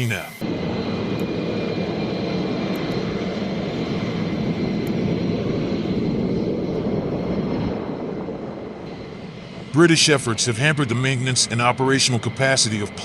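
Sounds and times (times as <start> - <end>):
jet engine rushing with high whine: 0.0 - 13.0.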